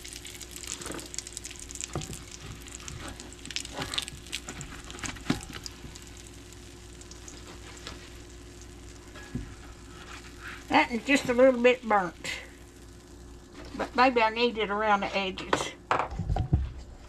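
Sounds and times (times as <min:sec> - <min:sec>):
oil sizzling and crackling: 0:00.0 - 0:14.6.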